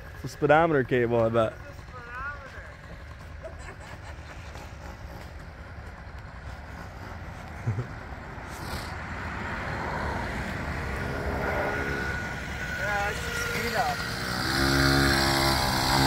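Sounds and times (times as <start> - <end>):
moped engine running: 0.0 - 16.0.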